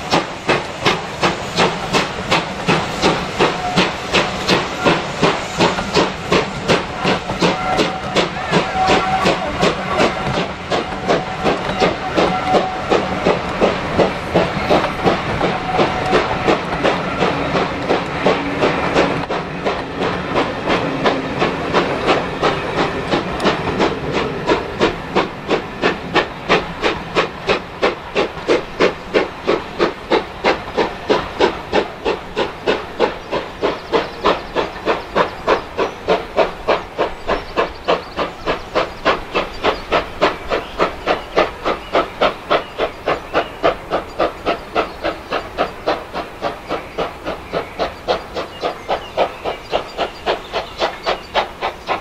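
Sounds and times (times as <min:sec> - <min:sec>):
steam hissing: 0:00.0 - 0:52.0
steam locomotive exhaust beats: 0:00.0 - 0:52.0.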